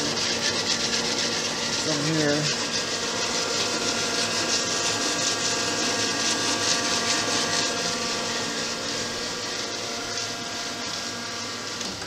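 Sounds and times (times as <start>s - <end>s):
grinder machine humming: 0.0s - 12.0s.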